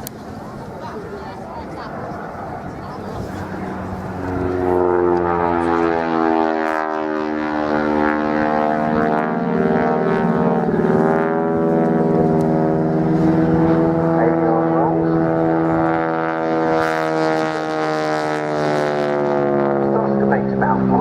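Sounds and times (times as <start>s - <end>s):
propeller aircraft flying past: 0.0s - 21.0s.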